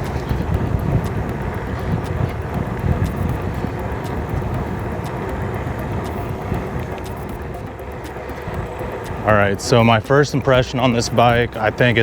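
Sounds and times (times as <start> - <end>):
faint steady hum: 0.0 - 12.0
wide tyres rumbling: 0.0 - 12.0
wind buffeting microphone: 0.0 - 12.0.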